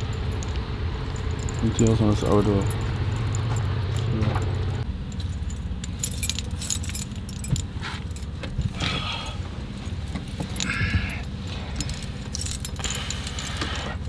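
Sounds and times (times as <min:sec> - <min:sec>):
keys jangling: 0:00.0 - 0:14.0
knocks and rustles: 0:02.7 - 0:14.0.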